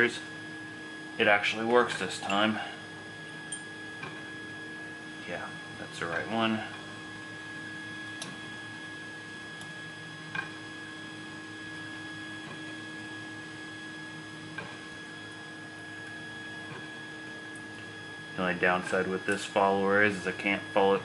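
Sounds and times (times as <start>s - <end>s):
three-d printers whining: 0.0s - 21.0s.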